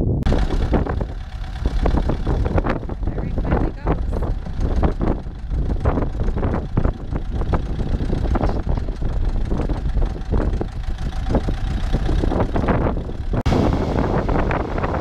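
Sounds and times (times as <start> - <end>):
tractor diesel engine running: 0.0 - 15.0
rattling and knocking: 0.3 - 13.4.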